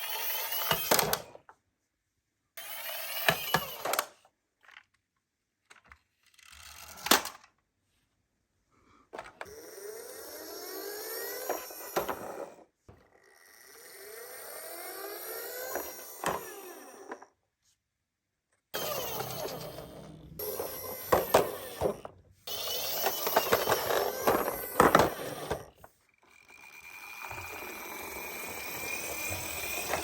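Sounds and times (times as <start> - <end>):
toy car rattling whir: 0.0 - 1.4, 2.6 - 5.0, 5.7 - 7.5, 9.4 - 17.4, 18.7 - 30.0.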